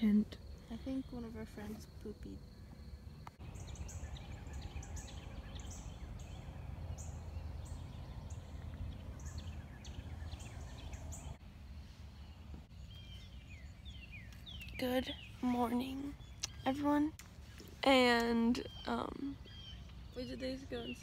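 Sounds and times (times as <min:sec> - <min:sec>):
steady low rumble: 0:00.0 - 0:21.0
small bird chirping: 0:03.0 - 0:11.4, 0:12.1 - 0:21.0.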